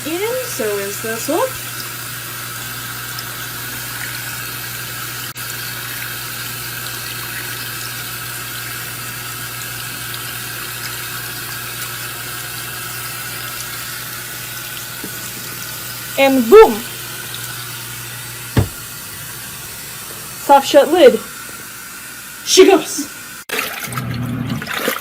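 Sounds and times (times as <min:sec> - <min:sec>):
water running into washing machine tub: 0:00.0 - 0:25.0.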